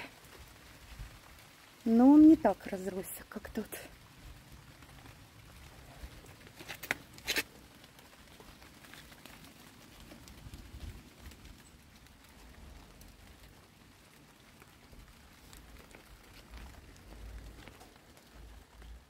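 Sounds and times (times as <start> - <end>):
light rain on plants: 0.0 - 19.0.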